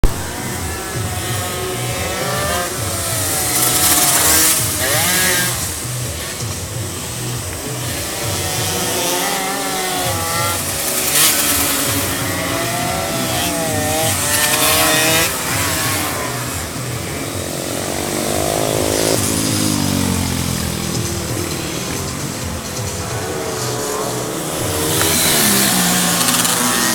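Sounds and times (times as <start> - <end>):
car engines revving: 0.0 - 26.9.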